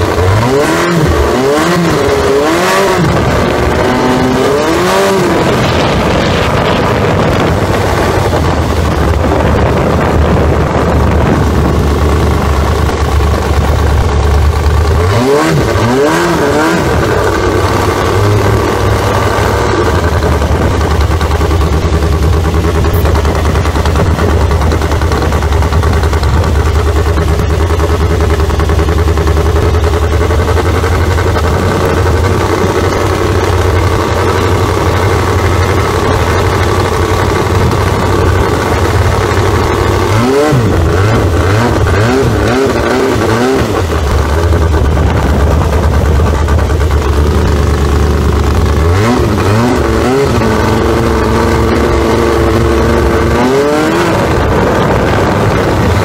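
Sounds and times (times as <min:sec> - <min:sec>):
boat engine revving: 0:00.0 - 0:56.0.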